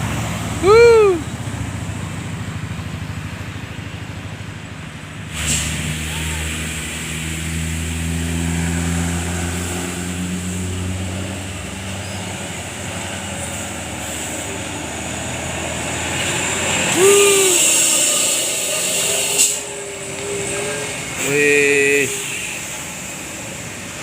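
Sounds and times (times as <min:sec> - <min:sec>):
heavy vehicle engine passing: 0:00.0 - 0:24.0
traffic noise: 0:00.0 - 0:24.0.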